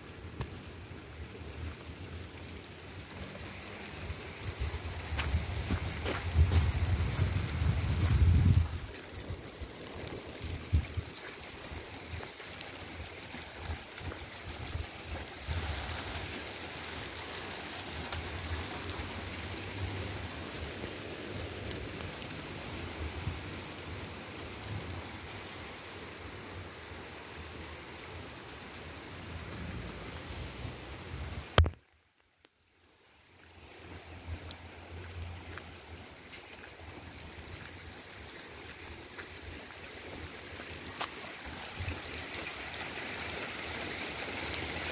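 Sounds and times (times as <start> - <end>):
hail and rain on pavement: 0.0 - 31.9, 32.5 - 44.9.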